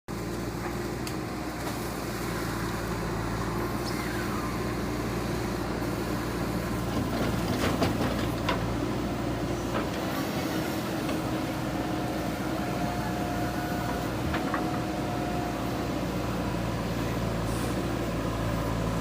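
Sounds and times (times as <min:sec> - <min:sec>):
diesel engine running: 0:00.1 - 0:19.0.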